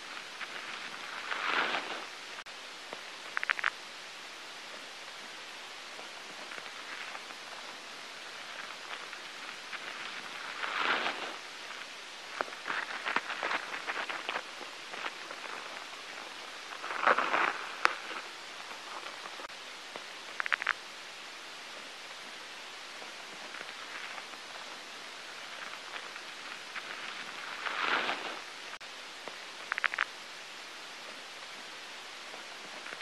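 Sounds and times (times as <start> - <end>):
rustling and crackling: 0.0 - 3.8, 4.6 - 20.8, 21.7 - 30.2, 30.9 - 33.0
steady hiss: 0.0 - 33.0.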